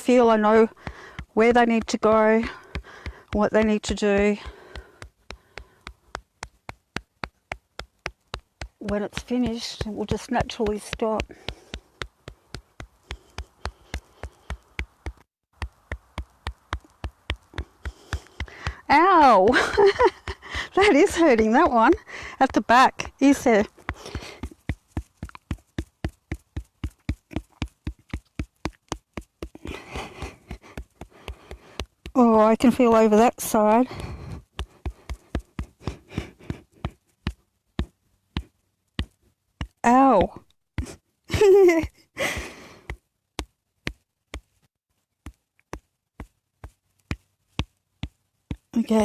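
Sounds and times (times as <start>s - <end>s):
rapid even tapping: 0.1s - 44.6s.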